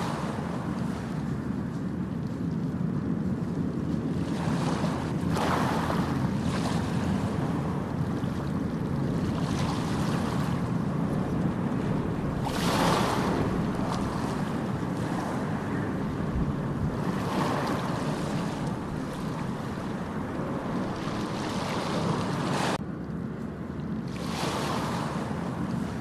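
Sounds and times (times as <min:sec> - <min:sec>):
ocean waves rumbling: 0:00.0 - 0:22.8, 0:23.6 - 0:26.0
waves breaking and washing in: 0:00.0 - 0:26.0.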